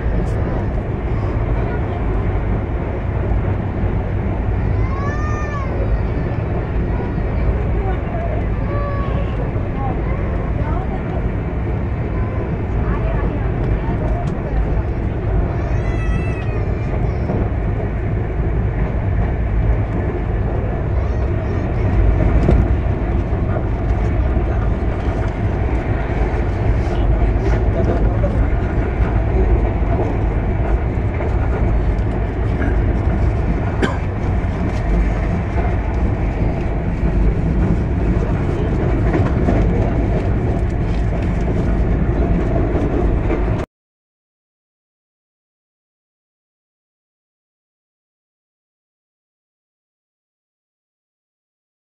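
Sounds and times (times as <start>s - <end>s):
train wheels rumbling on rail: 0.0s - 43.7s.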